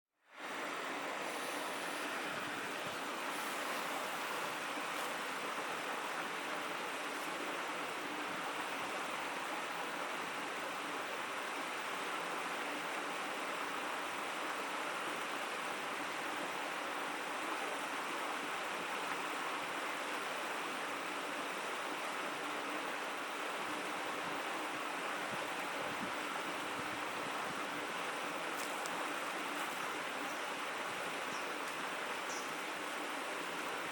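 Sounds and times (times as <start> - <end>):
stream babbling: 0.2 - 33.9.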